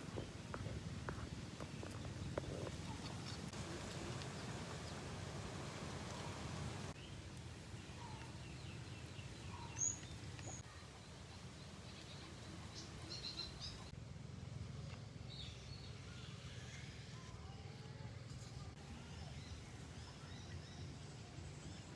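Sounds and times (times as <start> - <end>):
low outdoor rumble: 0.0 - 21.9.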